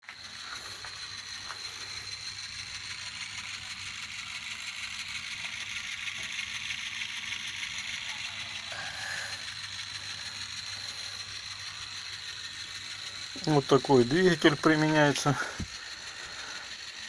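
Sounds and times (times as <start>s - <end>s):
motor hum and whir: 0.0s - 17.0s.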